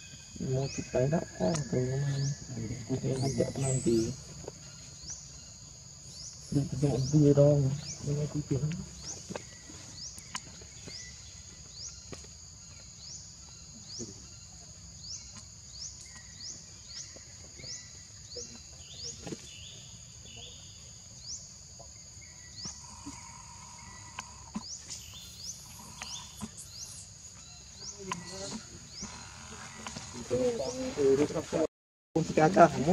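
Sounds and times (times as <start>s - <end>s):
rising insect chirp: 0.0s - 31.7s
insects buzzing: 0.0s - 32.9s.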